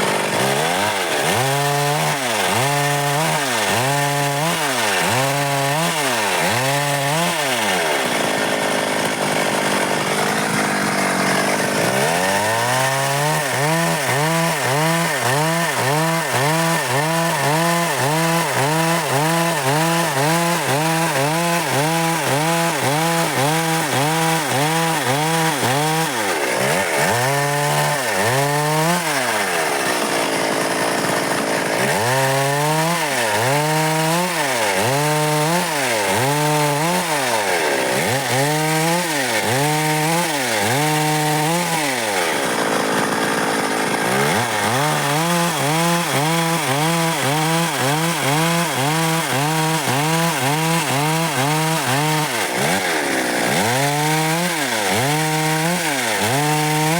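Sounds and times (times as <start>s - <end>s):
chainsaw cutting dry wood: 0.0s - 56.9s.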